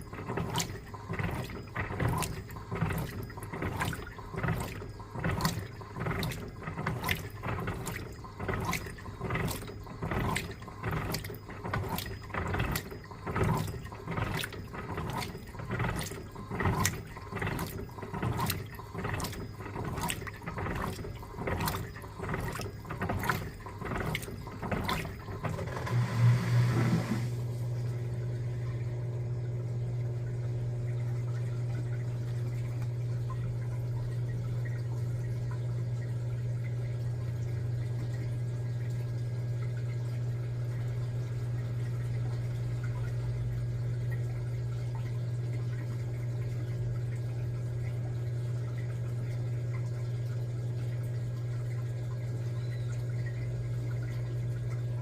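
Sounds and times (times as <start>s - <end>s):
washing machine agitating water: 0.0s - 55.0s.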